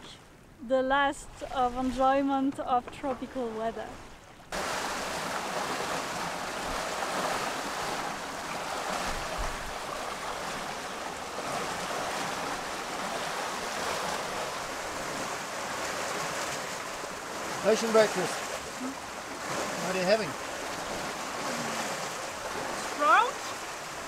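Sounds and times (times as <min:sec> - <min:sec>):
sea water rushing past hull: 0:00.0 - 0:24.0.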